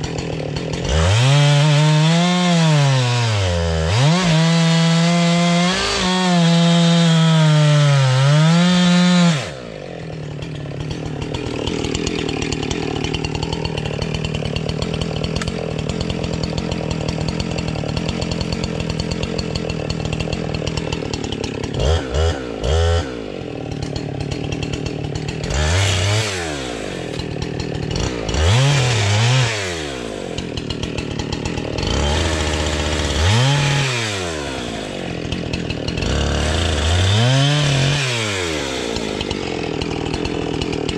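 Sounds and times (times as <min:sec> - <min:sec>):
chainsaw cutting and revving: 0:00.0 - 0:40.9.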